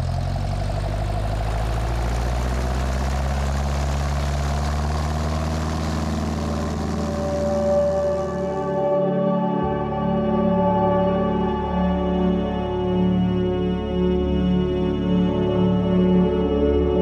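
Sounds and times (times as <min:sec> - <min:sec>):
propeller plane engine running: 0:00.0 - 0:17.0.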